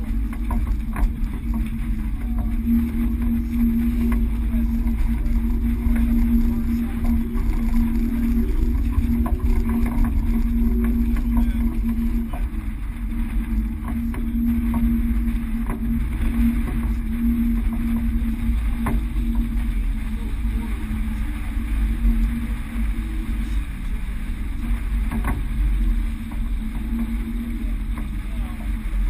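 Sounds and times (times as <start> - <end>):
constant hum: 0.0 - 29.0
low rumble: 0.0 - 29.0.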